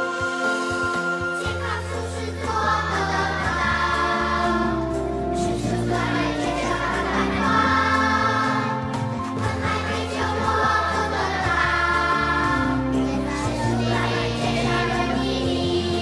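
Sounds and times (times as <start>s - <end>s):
backing music: 0.0s - 16.0s
children singing together: 0.0s - 16.0s.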